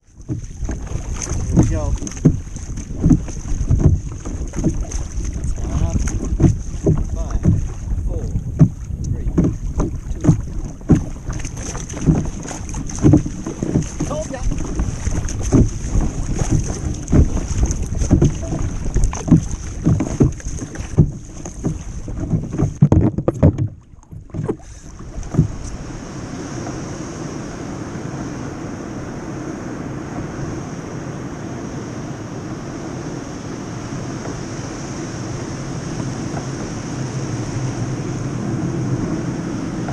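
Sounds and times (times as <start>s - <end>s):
rush of wind and sea: 0.0s - 39.9s
surf splashing around kayak: 0.0s - 39.9s
wind buffeting microphone: 0.0s - 39.9s.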